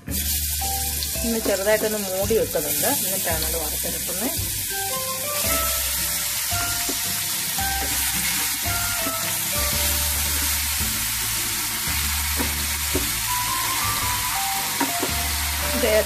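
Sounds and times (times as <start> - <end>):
background music: 0.0 - 16.0
chicken sizzling in oil: 0.0 - 16.0.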